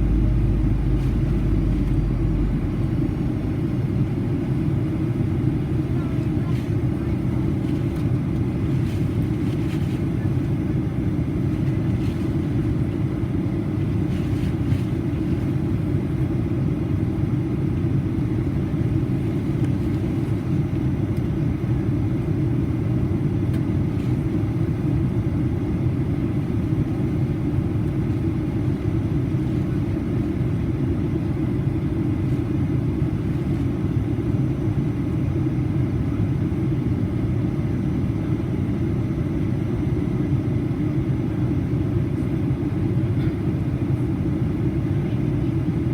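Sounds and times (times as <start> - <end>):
airplane cabin rumble: 0.0 - 45.9.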